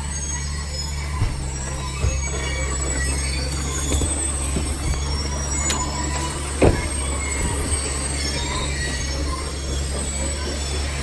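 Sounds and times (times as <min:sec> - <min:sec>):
high metallic squeals: 0:00.0 - 0:11.0
low engine hum: 0:00.0 - 0:11.0.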